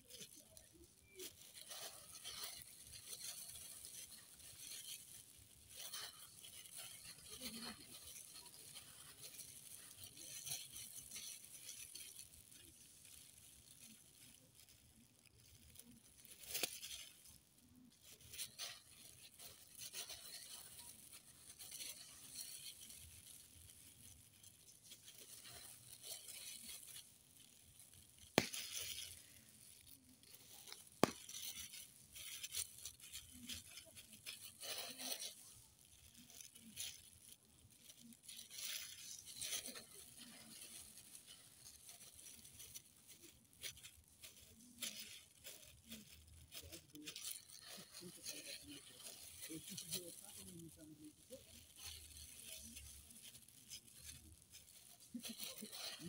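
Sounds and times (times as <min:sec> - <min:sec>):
plastic gloves and bags rustling: 0:00.0 - 0:56.0.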